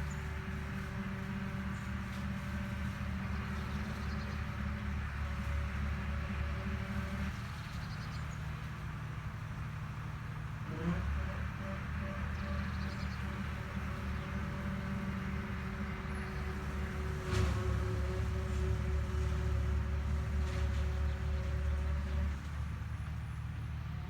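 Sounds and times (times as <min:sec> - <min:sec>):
machine engine droning: 0:00.0 - 0:24.0.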